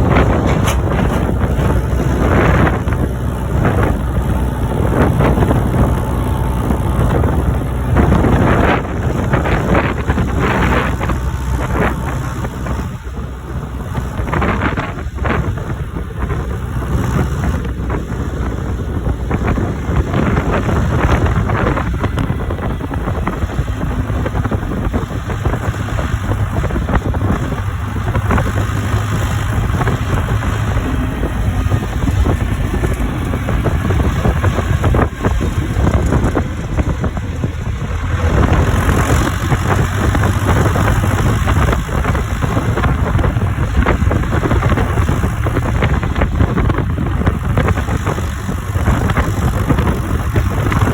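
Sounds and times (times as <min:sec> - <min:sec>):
knocks and rattles: 0:00.0 - 0:50.9
tractor diesel engine running: 0:00.0 - 0:50.9.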